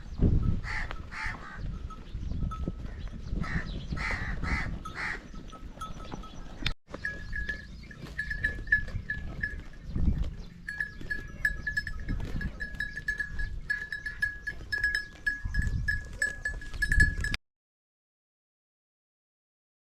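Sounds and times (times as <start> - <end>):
livestock neck bells clinking: 0.3 - 3.4, 4.4 - 17.4.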